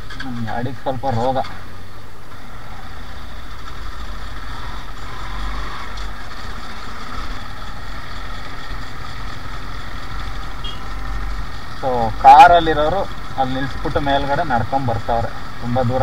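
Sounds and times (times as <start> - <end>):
motorcycle engine running: 3.1 - 16.0.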